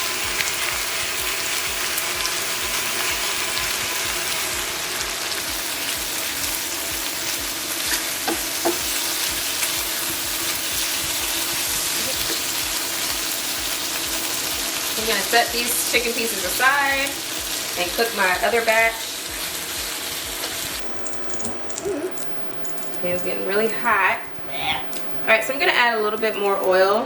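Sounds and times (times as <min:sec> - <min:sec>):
chicken sizzling in oil: 0:00.0 - 0:23.1.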